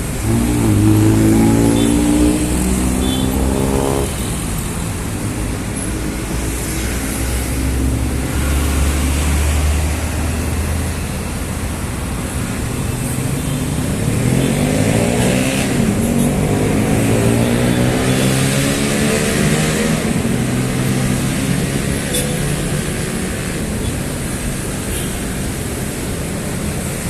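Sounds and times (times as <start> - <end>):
tyre and engine noise: 0.0 - 27.0.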